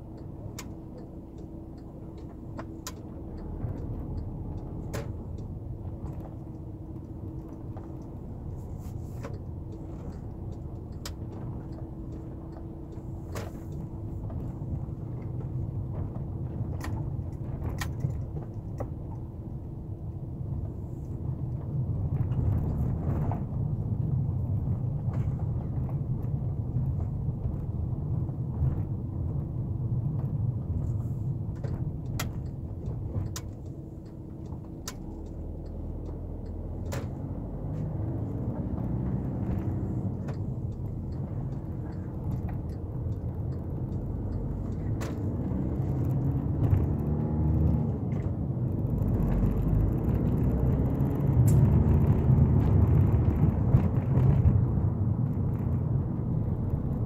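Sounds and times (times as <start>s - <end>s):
diesel engine from inside cab: 0.0s - 57.0s
road noise: 0.0s - 57.0s.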